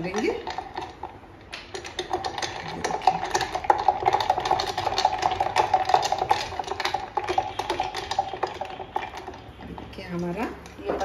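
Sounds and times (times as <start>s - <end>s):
ice cubes clinking in glass pitcher: 0.0s - 11.0s.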